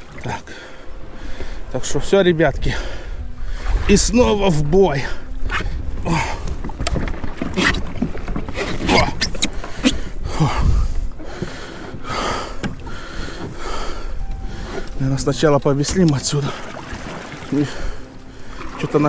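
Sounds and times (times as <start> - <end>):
water splashing against kayak: 2.6 - 19.0.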